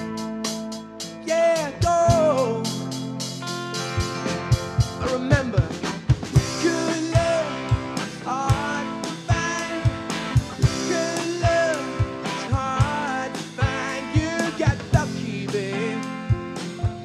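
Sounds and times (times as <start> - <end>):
drum kit beating: 0.0 - 17.0
electric guitar: 0.0 - 17.0
strummed acoustic guitar: 0.0 - 17.0
man singing: 1.2 - 3.0, 4.9 - 17.0.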